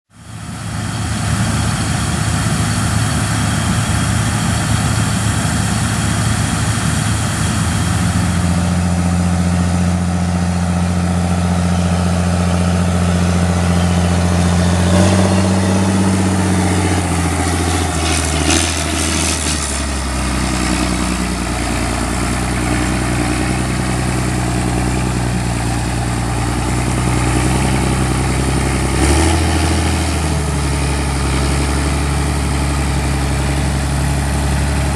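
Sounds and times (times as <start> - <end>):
heavy diesel engine running: 0.1 - 34.9.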